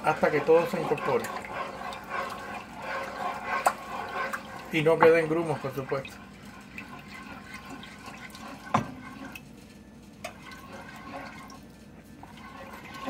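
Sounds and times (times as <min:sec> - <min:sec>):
wooden spoon stirring in pot: 0:00.0 - 0:13.0.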